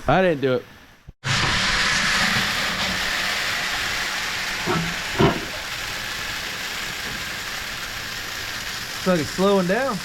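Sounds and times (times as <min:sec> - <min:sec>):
grain conveyor hissing rush: 0:01.3 - 0:10.0.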